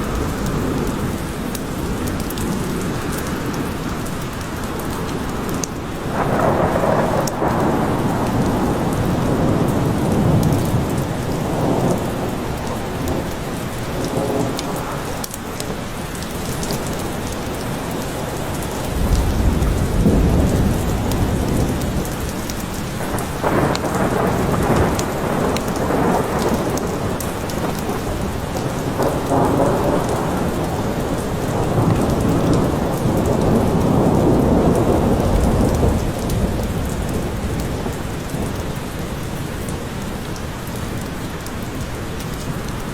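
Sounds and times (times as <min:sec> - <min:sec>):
thunder rumbling: 0:00.0 - 0:17.2, 0:18.2 - 0:39.3
heavy rain in a forest: 0:00.0 - 0:42.9.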